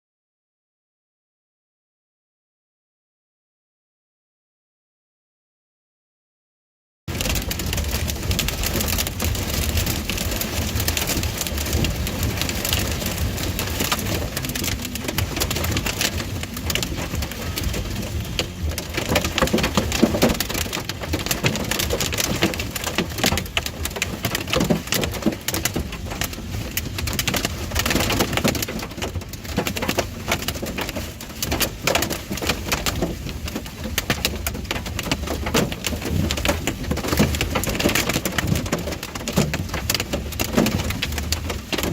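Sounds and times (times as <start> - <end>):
car rumbling on road: 7.1 - 41.9
heavy rain on car windshield: 7.1 - 41.9.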